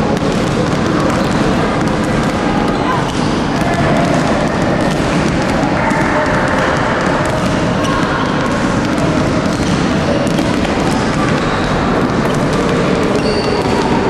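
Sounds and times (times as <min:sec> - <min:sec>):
basketballs bouncing on wooden floor: 0:00.0 - 0:14.0.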